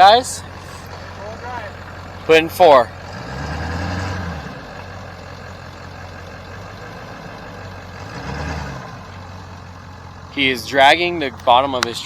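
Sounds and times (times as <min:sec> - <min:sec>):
diesel engine drone from inside cab: 0:00.0 - 0:12.0.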